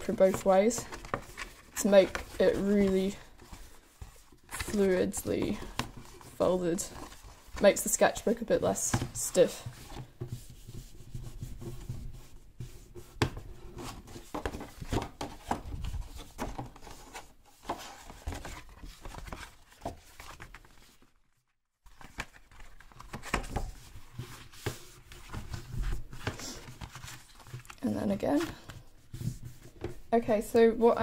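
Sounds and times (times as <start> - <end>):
paper rustling and crinkling: 0.0 - 8.1, 8.7 - 30.0.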